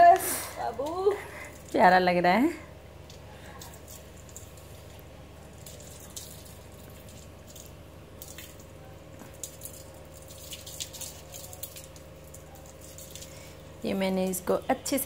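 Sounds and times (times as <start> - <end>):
steady low hum: 0.0 - 15.0
water dripping onto tiled floor: 0.8 - 2.3, 3.0 - 15.0.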